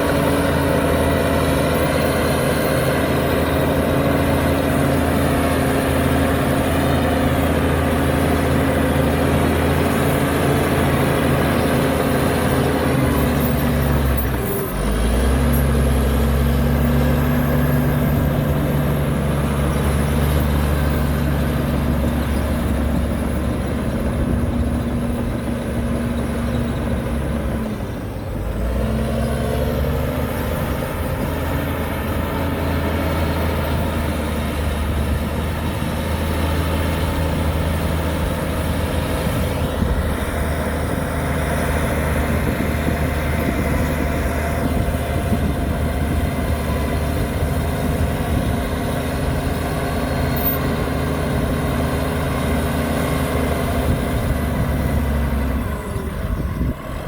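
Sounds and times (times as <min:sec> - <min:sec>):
heavy diesel engines under load: 0:00.0 - 0:57.0.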